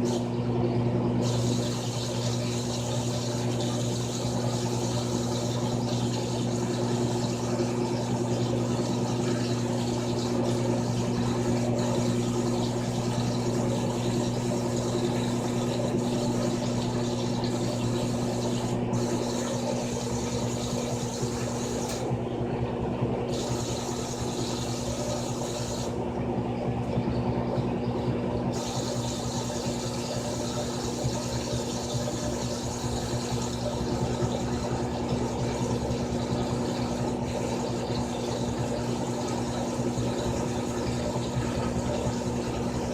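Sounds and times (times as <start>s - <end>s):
washing machine running: 0.0s - 42.9s.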